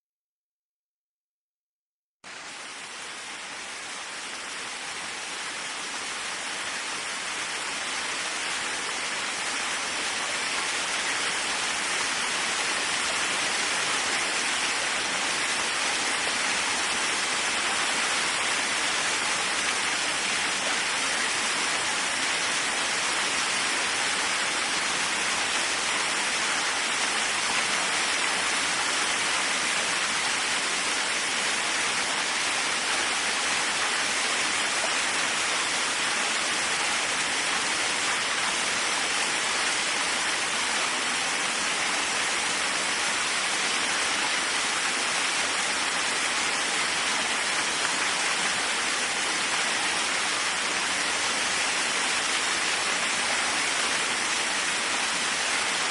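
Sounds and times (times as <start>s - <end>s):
waterfall rushing: 2.3s - 55.9s.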